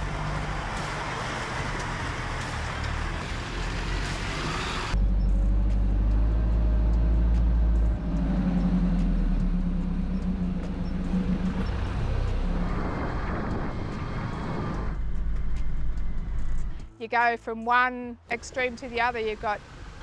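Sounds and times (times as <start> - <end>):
truck engine running: 0.0 - 16.8.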